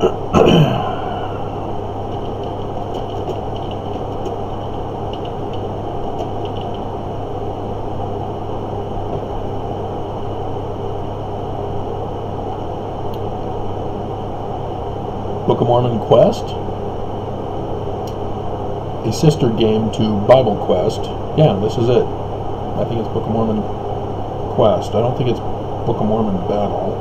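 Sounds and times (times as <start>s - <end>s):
room noise hum and hiss: 0.0s - 27.0s.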